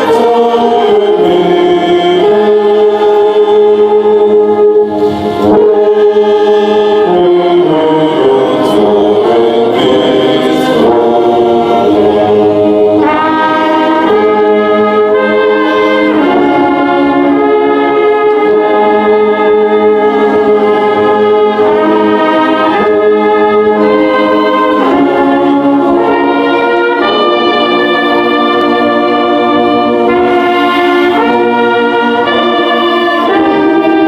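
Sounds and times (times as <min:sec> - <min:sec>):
brass band playing slow chords: 0:00.0 - 0:34.0.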